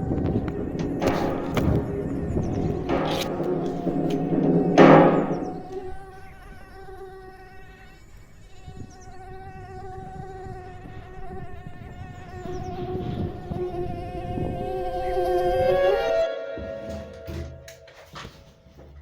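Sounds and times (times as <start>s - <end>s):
buzzing hum: 0.0s - 17.9s.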